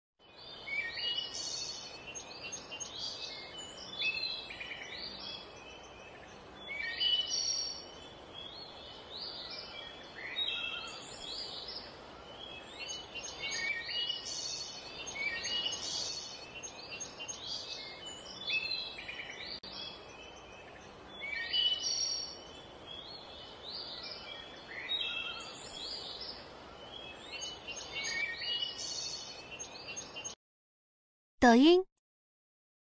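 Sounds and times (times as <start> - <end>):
faint steady hiss: 0.3 - 29.9
birds chirping and singing: 0.4 - 30.3.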